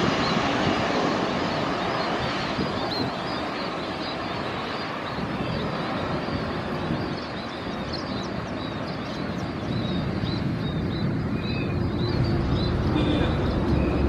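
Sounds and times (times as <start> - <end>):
jet engine rumble: 0.0 - 14.0
small birds chirping: 0.0 - 14.0.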